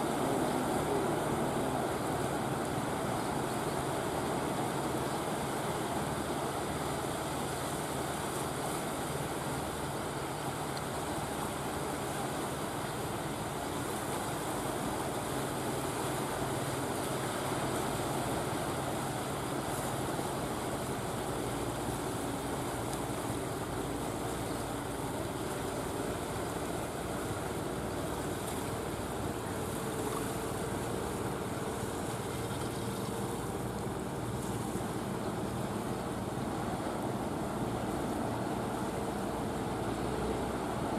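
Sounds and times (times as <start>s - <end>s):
boat engine humming: 0.0s - 40.9s.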